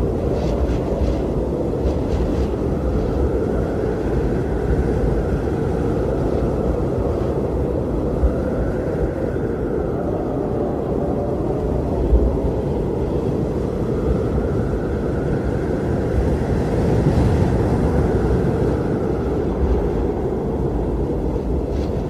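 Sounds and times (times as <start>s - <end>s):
blizzard wind blowing: 0.0s - 22.0s
high wind howl: 0.0s - 22.0s.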